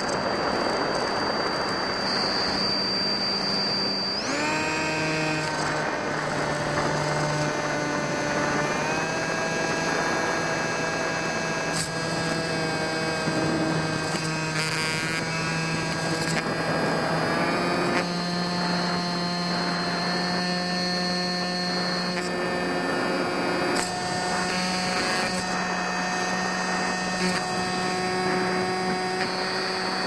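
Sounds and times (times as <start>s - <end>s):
electric motor and propeller whine: 0.0s - 30.0s.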